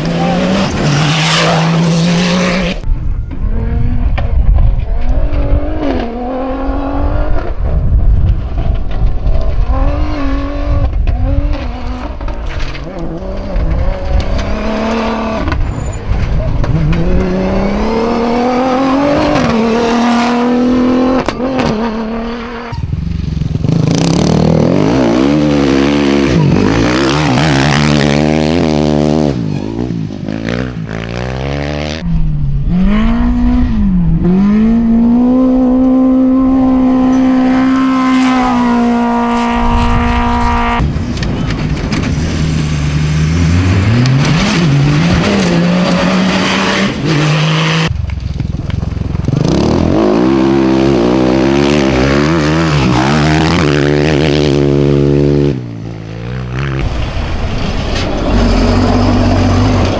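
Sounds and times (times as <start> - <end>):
rally car engines revving: 0.0 - 48.0, 49.0 - 59.9.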